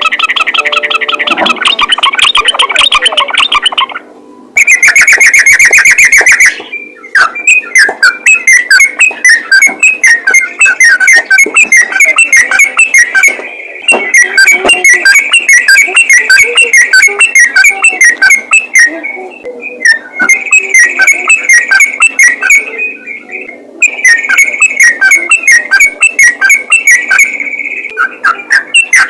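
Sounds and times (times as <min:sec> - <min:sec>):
bulbul singing: 0:00.0 - 0:29.0.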